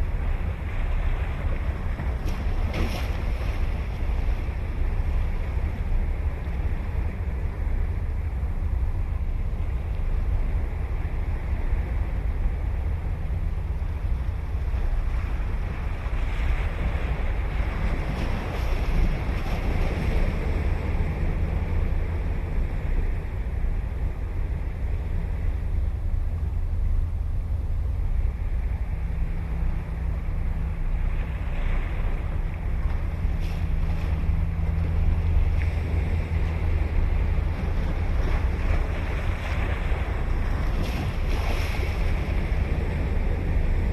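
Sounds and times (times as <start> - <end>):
ocean waves breaking on a beach: 0.0 - 43.9
wind rumble on the microphone: 0.0 - 43.9.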